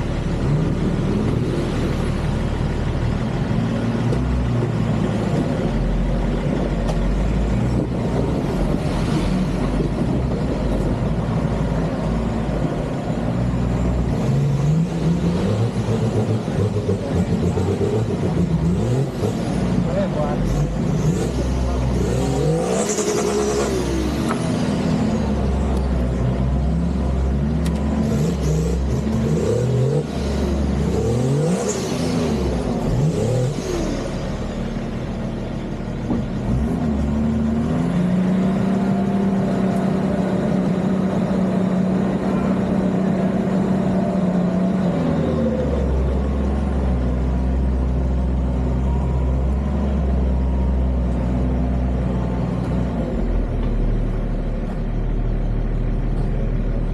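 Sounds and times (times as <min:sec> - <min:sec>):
off-road vehicle engine revving: 0:00.0 - 0:56.9.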